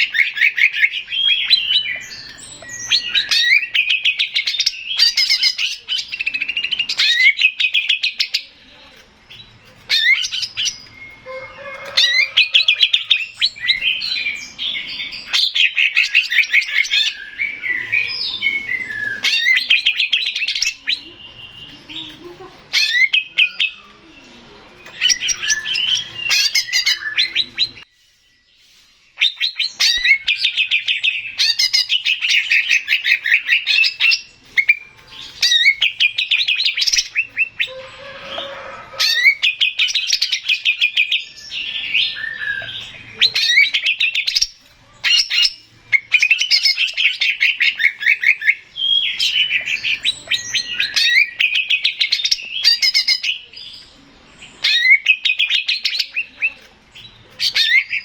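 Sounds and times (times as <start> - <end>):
bird singing fast chirps: 0.0 - 8.6, 9.2 - 11.4, 12.0 - 24.2, 24.9 - 27.9, 29.1 - 37.9, 39.0 - 53.9.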